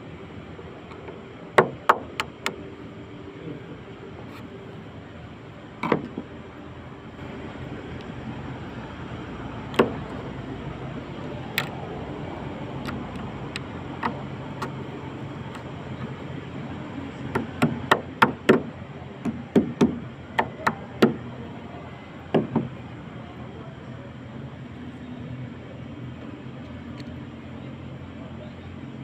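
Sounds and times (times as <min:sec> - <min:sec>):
low background rumble: 0:00.0 - 0:29.0.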